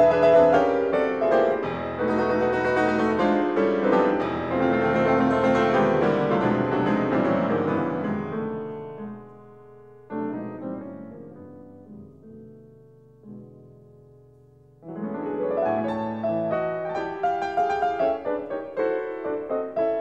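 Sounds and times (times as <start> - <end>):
piano chords: 0.0 - 20.0.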